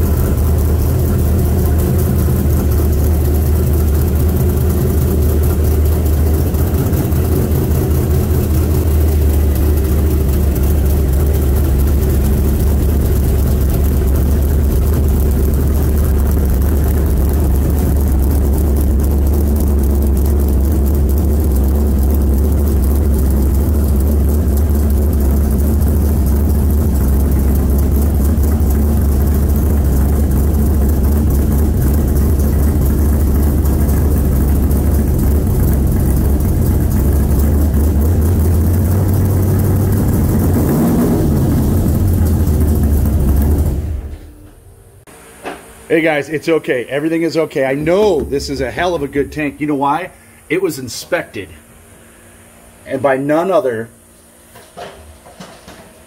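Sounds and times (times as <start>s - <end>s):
car engine idling: 0.0s - 45.1s, 45.9s - 50.5s.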